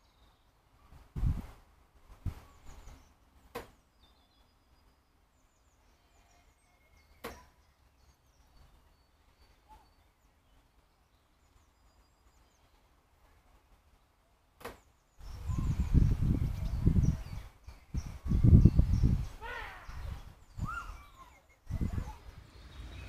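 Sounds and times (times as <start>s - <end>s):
distant small birds chirping: 0.0s - 23.0s.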